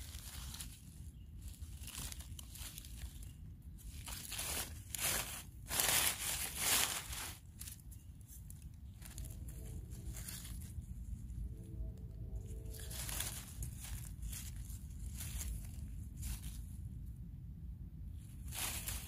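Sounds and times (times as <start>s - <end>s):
dry leaves rustling and crunching: 0.0s - 17.2s, 18.1s - 19.0s.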